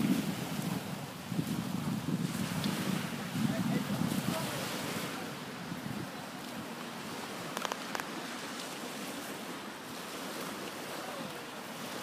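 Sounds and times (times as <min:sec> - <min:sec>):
waves washing on shingle beach: 0:00.0 - 0:12.0.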